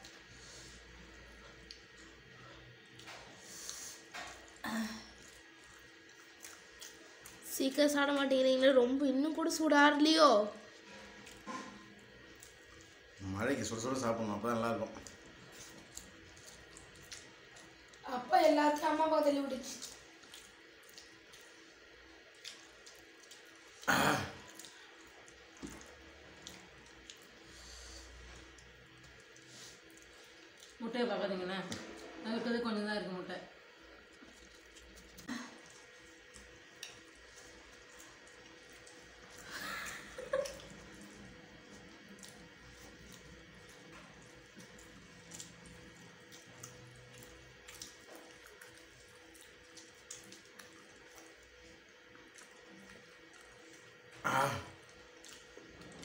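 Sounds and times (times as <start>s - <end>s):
person chewing food: 0.0s - 7.5s, 10.7s - 18.0s, 19.8s - 30.8s, 33.7s - 56.0s
low steady hum: 0.0s - 56.0s.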